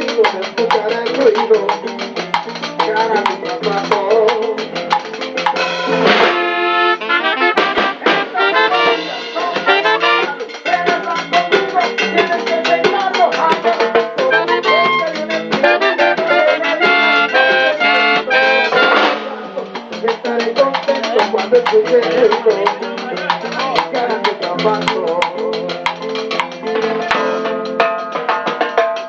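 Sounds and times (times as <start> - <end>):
brass band latin dance music: 0.0 - 29.0
drums and percussion: 0.0 - 29.0.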